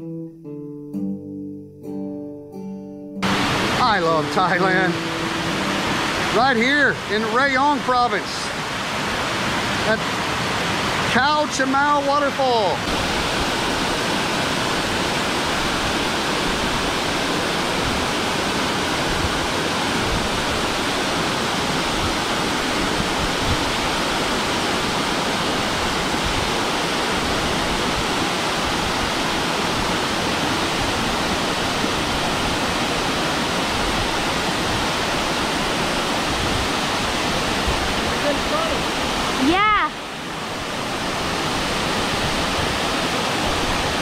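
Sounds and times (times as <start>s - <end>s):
waterfall rushing: 3.2s - 44.0s.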